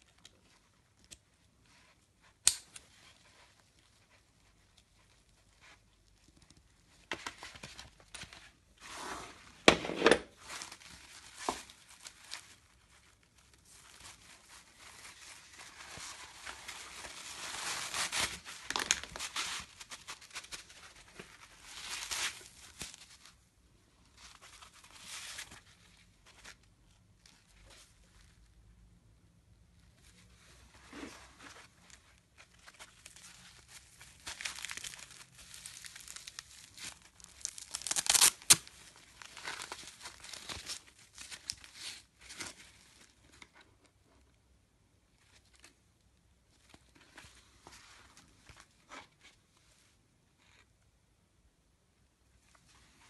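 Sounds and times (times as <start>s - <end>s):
rustling and crinkling of pads: 0.0s - 28.6s, 29.7s - 44.3s, 45.1s - 50.7s.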